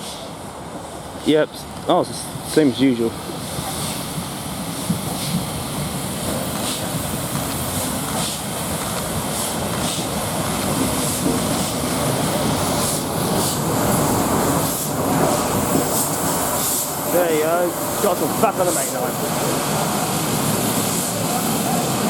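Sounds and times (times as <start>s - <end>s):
steam locomotive rail rumble: 0.0s - 22.0s
steam hiss: 2.0s - 22.0s.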